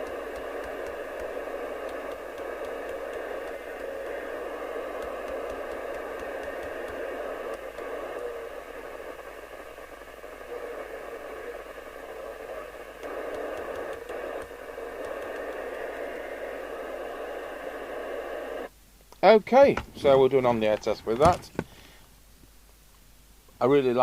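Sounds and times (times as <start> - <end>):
radio loudspeaker hiss: 0.0 - 22.0.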